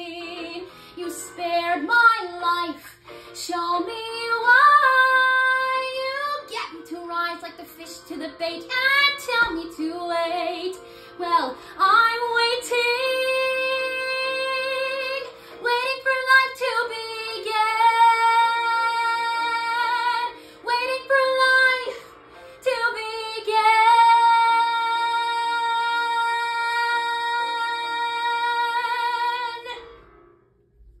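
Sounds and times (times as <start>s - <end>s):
woman singing: 0.0s - 29.8s.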